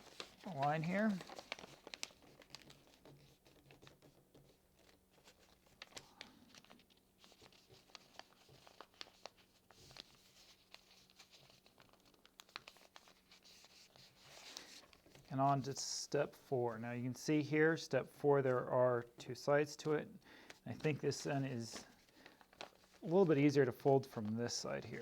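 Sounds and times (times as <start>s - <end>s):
paper crinkling and rustling: 0.0s - 15.7s, 20.5s - 25.0s.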